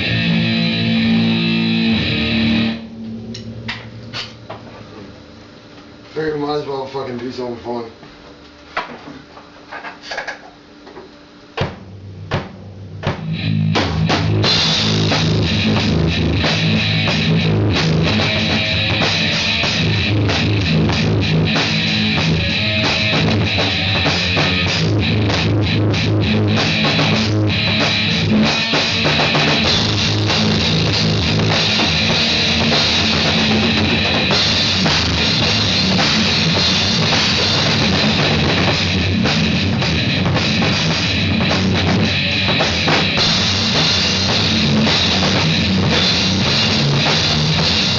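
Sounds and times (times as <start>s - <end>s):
rock music with drums and guitar: 0.0s - 4.7s, 11.5s - 47.9s.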